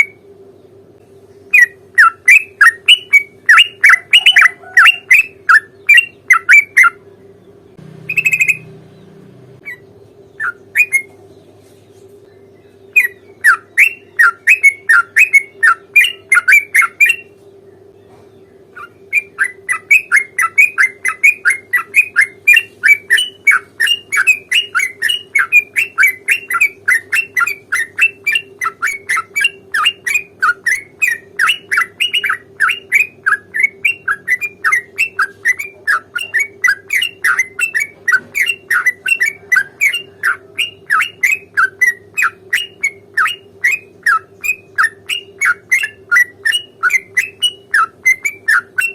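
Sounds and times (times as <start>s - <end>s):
bird chattering song: 0.0s - 48.9s.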